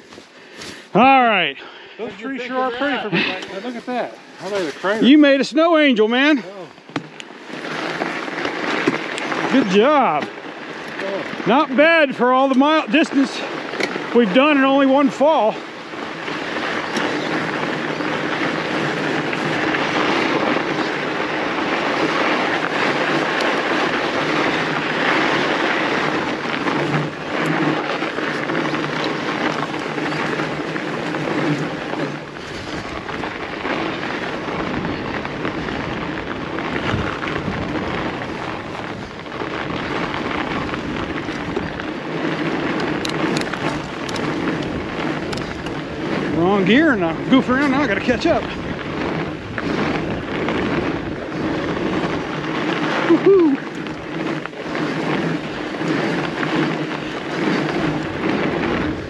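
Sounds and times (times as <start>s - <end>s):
bike rattling over bumps: 0.0s - 59.0s
bike tyres crunching on snow: 0.0s - 59.0s.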